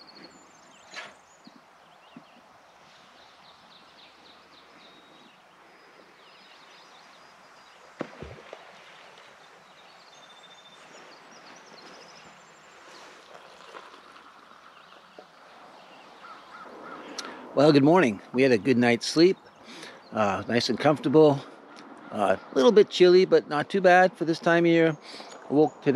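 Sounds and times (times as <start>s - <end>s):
faint birdsong: 0.0s - 25.9s.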